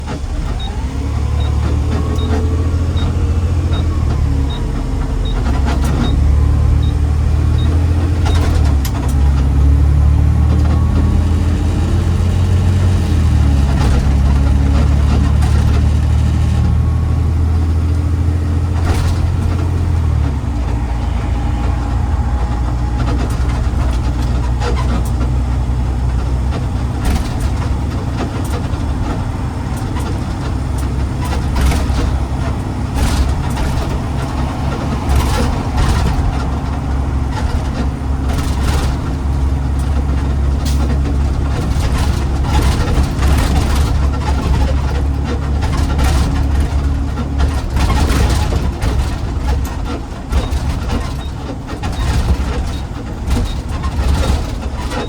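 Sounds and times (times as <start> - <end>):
garbage truck engine running: 0.0 - 55.0
clanks and rattles: 1.4 - 55.0.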